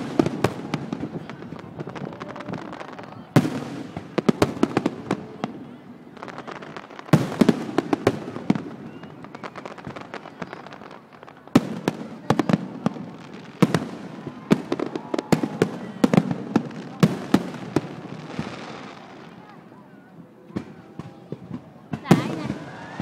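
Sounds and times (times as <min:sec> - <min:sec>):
fireworks cracking and banging: 0:00.0 - 0:23.0.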